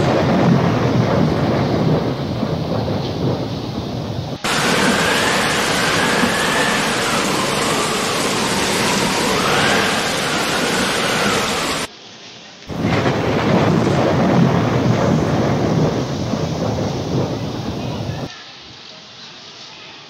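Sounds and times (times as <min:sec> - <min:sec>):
gusting wind on microphone: 0:00.0 - 0:11.9, 0:12.7 - 0:18.3
low rumble: 0:00.0 - 0:11.9, 0:12.7 - 0:18.3
rain rushing: 0:00.0 - 0:11.9, 0:12.7 - 0:19.8.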